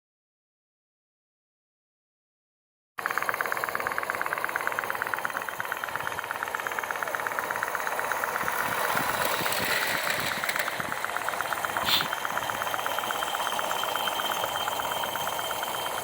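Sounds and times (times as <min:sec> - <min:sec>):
model locomotive mechanical clatter: 0:03.0 - 0:16.0.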